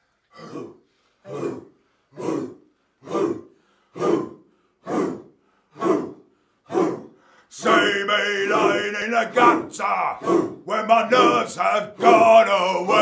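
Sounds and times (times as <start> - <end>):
group of voices shouting in unison: 0.4 - 13.0.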